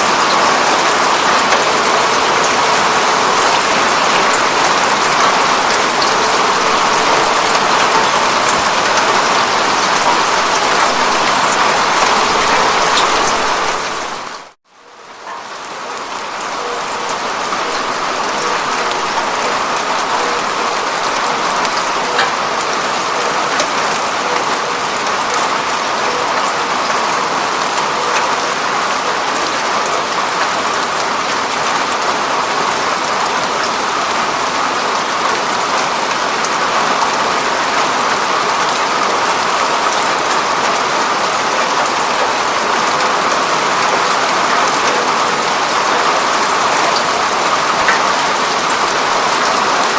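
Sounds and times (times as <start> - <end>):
rain on a window pane: 0.0 - 49.9.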